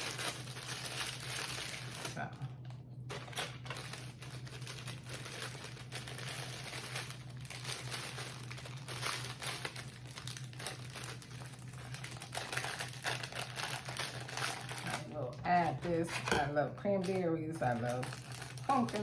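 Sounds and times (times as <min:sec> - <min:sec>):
plastic packets crinkling: 0:00.0 - 0:19.0
steady low hum: 0:00.0 - 0:19.0.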